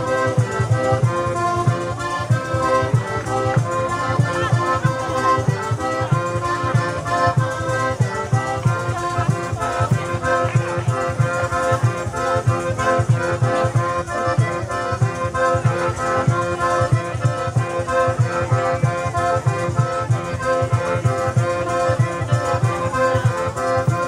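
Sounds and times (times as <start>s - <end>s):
accordion melody: 0.0s - 24.0s.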